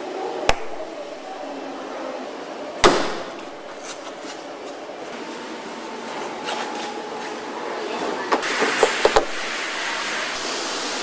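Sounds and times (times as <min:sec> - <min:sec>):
steady factory hum: 0:00.0 - 0:11.0.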